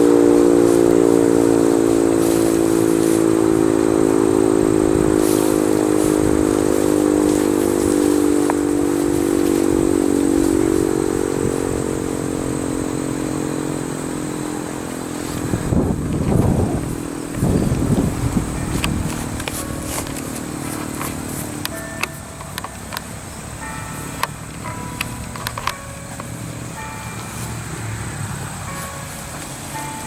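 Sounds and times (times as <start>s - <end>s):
warning siren wailing: 0.0s - 30.0s.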